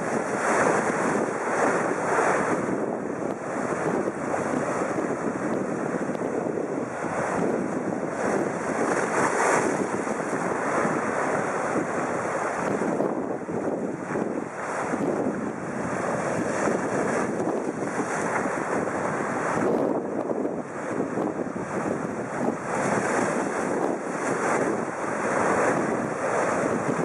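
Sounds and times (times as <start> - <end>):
surf breaking over rocks: 0.0 - 27.0.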